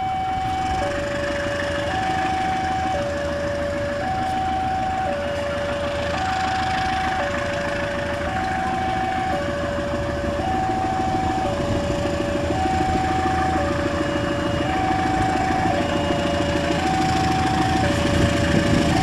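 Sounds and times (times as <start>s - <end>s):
level-crossing two-tone alarm: 0.0s - 19.0s
locomotive engine rumble: 0.0s - 19.0s.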